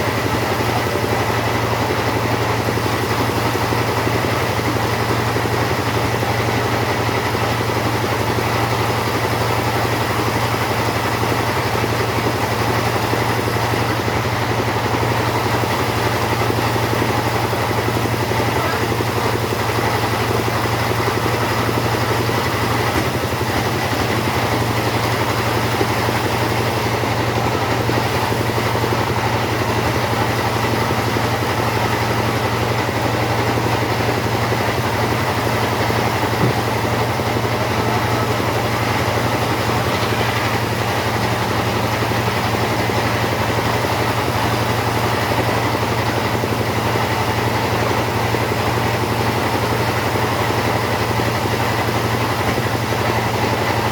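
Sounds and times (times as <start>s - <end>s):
chainsaw engine running: 0.0s - 53.9s.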